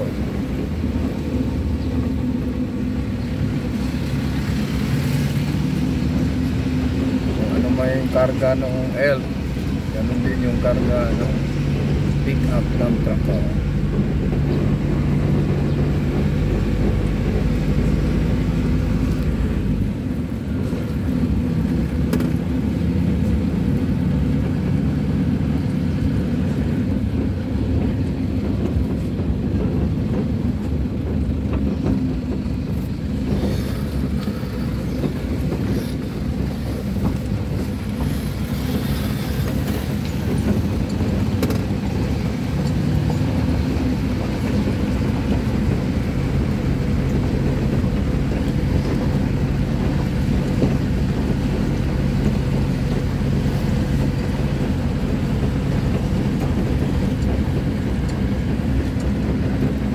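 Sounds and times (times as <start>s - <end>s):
truck engine running: 0.0s - 59.9s
tyre and road noise: 0.0s - 59.9s.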